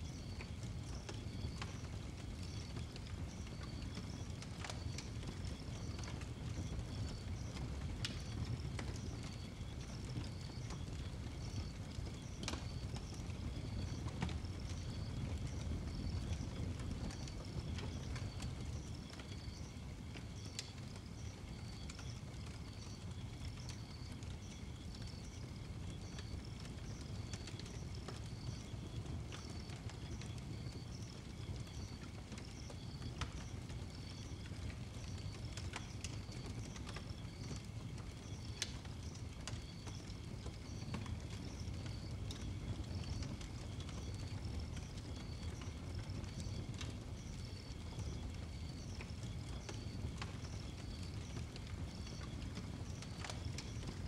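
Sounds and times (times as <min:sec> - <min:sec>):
wood fire rumbling and crackling: 0:00.0 - 0:54.0.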